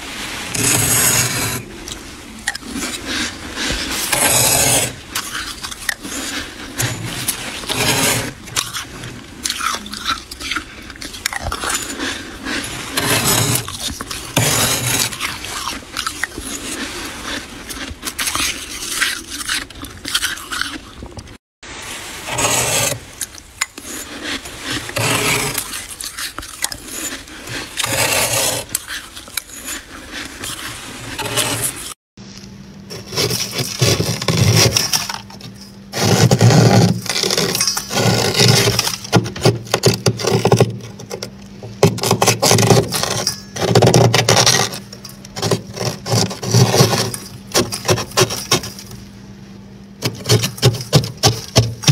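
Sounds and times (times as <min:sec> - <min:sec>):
spoon scraping frost: 0:00.5 - 0:21.4, 0:22.1 - 0:49.2, 0:50.0 - 0:51.9.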